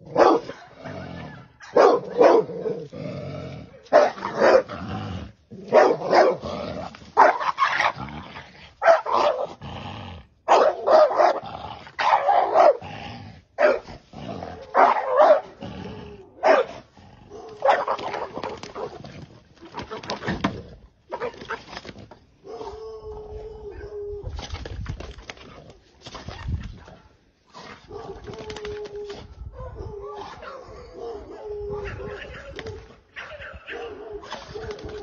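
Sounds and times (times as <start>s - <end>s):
dog barking and growling: 0.0s - 35.0s.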